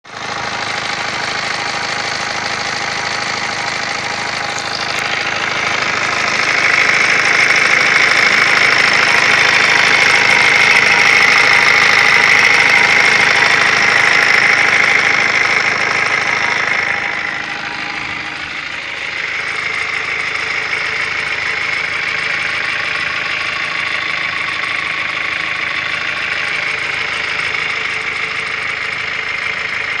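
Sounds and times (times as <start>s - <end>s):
car running with extraneous noise: 0.0s - 30.0s.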